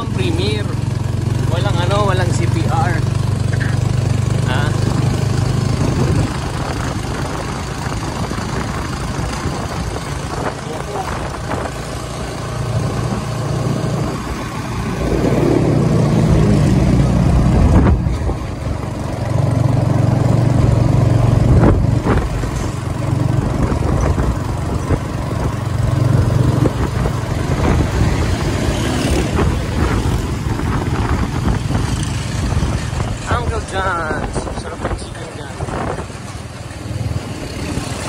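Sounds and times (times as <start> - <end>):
motorcycle engine revving: 0.0 - 38.0
road noise: 0.0 - 38.0.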